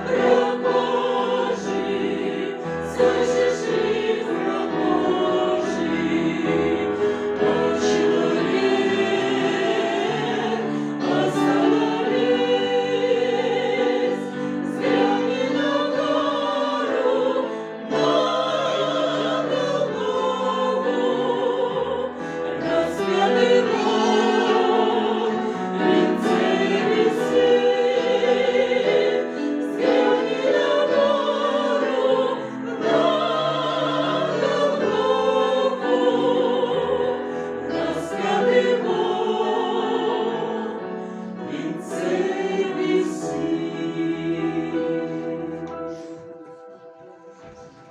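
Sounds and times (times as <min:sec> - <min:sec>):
mixed choir singing: 0:00.0 - 0:47.9.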